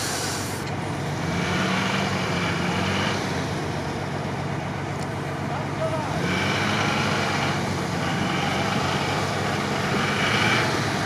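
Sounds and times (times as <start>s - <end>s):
off-road vehicle engine under load: 0.0s - 11.0s.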